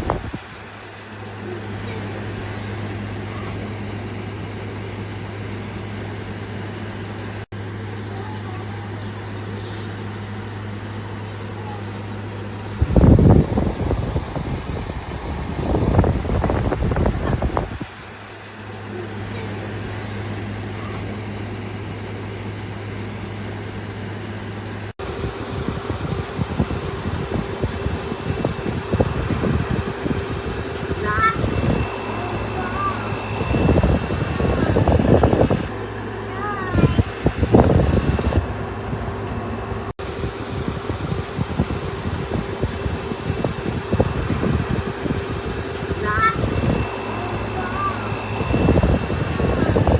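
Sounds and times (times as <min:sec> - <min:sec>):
air conditioner fan rushing: 0:00.0 - 0:49.9.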